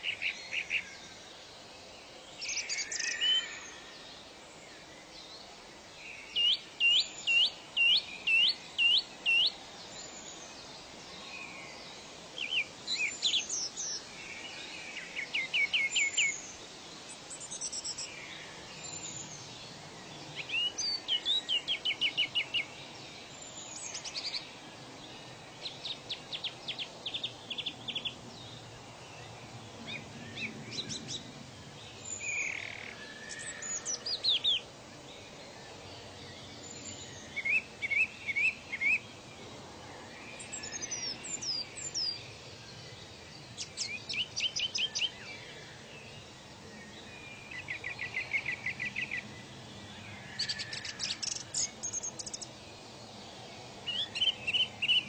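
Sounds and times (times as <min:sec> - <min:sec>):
faint steady hiss: 0:00.0 - 0:55.0
songbirds singing: 0:00.0 - 0:55.0.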